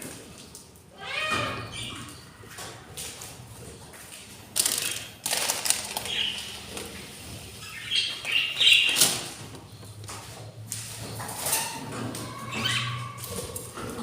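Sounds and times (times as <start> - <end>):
budgies fluttering and rustling: 1.2 - 10.0, 10.8 - 14.0.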